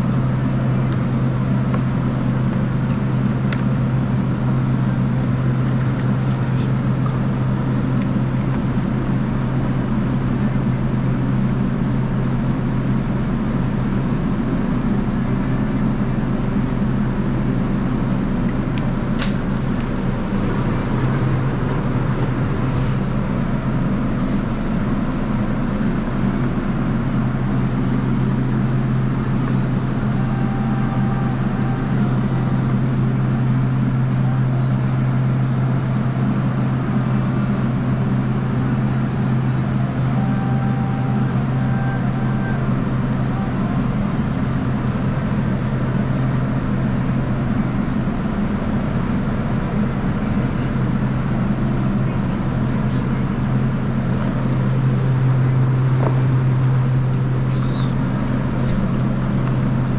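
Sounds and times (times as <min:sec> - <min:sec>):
refrigeration equipment humming: 0:00.0 - 0:59.9.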